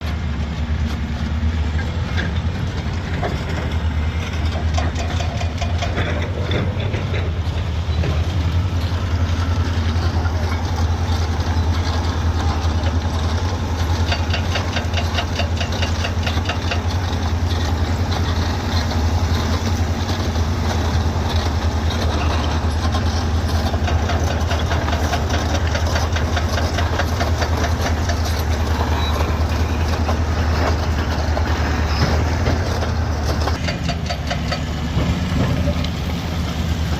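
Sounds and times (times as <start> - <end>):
bulldozer diesel engine droning: 0.0 - 36.9
crawler tracks metallic clatter: 0.0 - 36.9.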